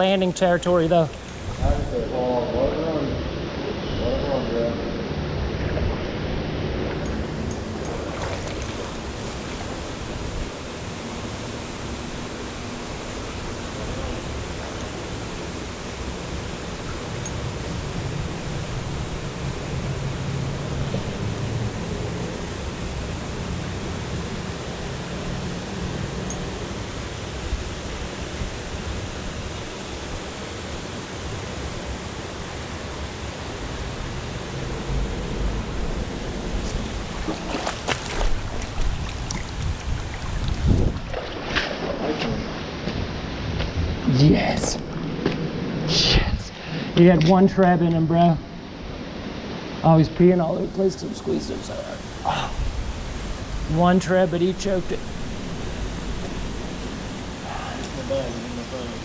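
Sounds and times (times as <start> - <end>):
creek water rushing over riffle: 6.0 - 26.2, 26.8 - 59.0.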